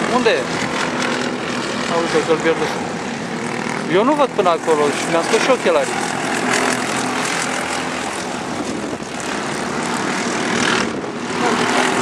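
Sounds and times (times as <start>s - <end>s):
go-kart engines buzzing: 0.0s - 12.0s.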